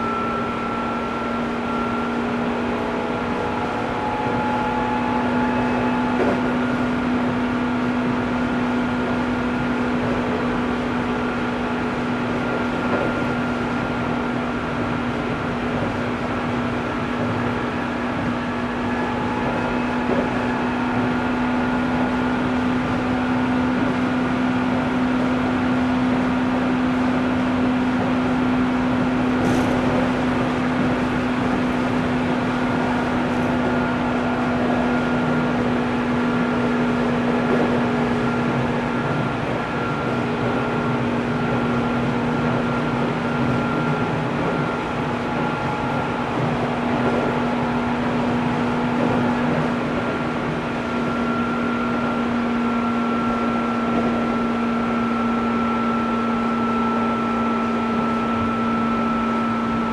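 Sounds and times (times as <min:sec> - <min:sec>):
train traction motor hum: 0:00.0 - 0:59.9
wheels rumbling on rail: 0:00.0 - 0:59.9.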